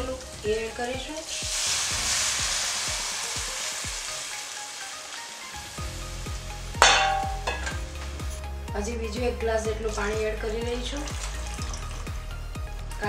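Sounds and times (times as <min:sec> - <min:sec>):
batter sizzling in hot oil: 0:00.0 - 0:08.7, 0:09.8 - 0:13.0.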